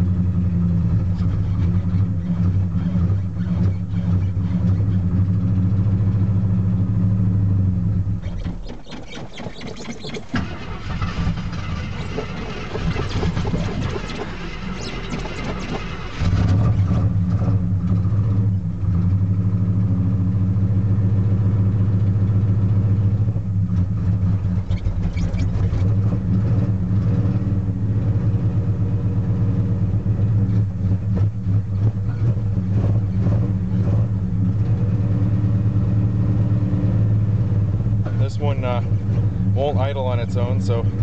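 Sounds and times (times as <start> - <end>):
cold engine running steadily: 0.0 - 41.0.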